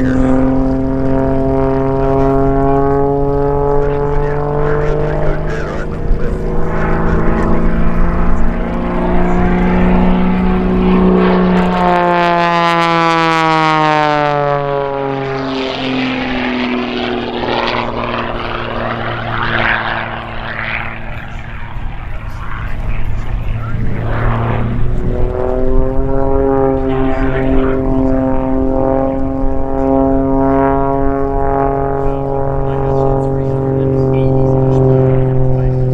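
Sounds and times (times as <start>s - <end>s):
biplane engine and propeller: 0.0s - 35.9s.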